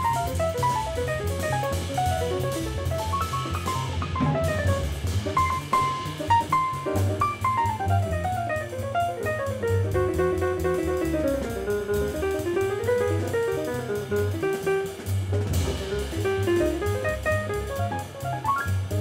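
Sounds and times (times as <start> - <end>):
double bass: 0.0 - 19.0
drum kit cymbals: 0.0 - 19.0
fast melodic solo run: 0.0 - 19.0
up-tempo acoustic jazz: 0.0 - 19.0.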